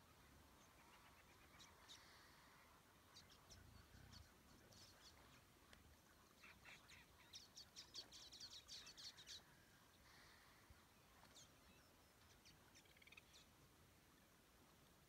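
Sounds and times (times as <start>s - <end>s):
faint bird chirps: 0.0s - 13.6s.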